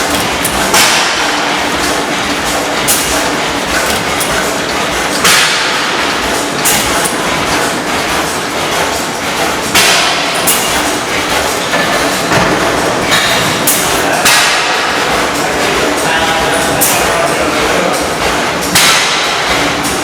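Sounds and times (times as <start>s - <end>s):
engine exhaust bangs: 0.0s - 20.0s
engine mechanical clatter: 0.0s - 20.0s.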